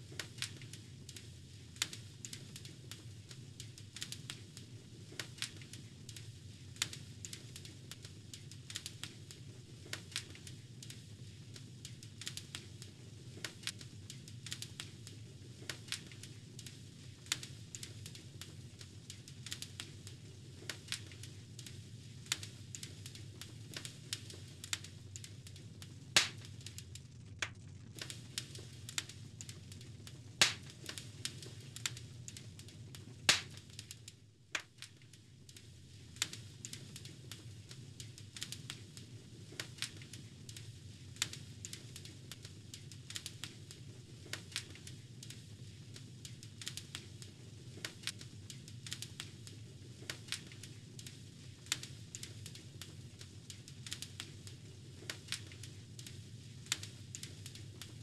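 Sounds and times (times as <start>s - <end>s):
low rumble of flame: 0.0s - 58.0s
logs crackling and popping: 0.1s - 58.0s.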